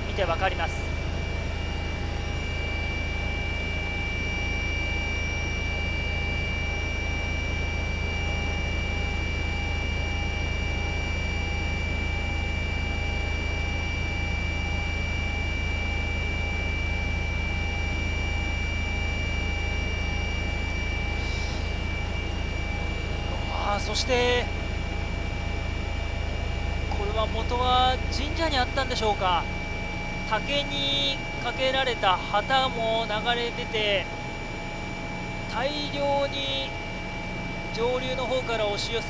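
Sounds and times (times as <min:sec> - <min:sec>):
helicopter rotor and engine rumble: 0:00.0 - 0:39.0
high turbine whine: 0:00.0 - 0:39.0.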